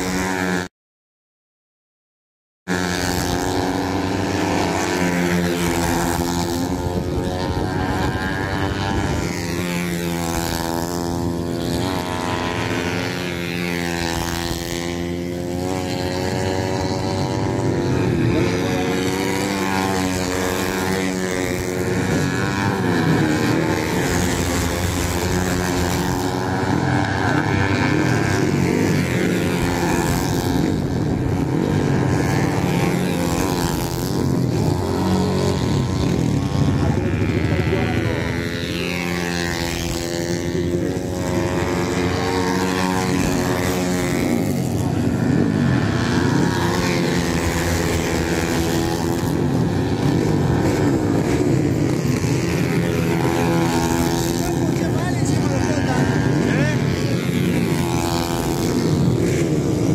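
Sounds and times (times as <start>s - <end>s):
small motorcycles racing: 0.0s - 0.7s, 2.7s - 59.9s.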